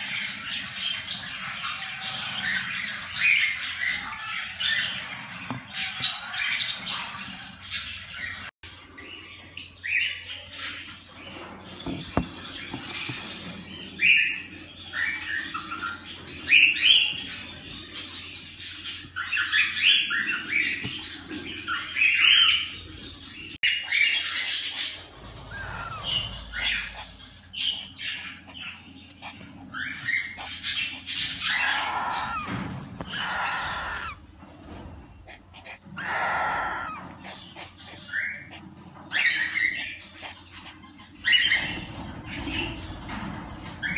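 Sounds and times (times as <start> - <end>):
bird chicks calling: 0.0 - 43.9.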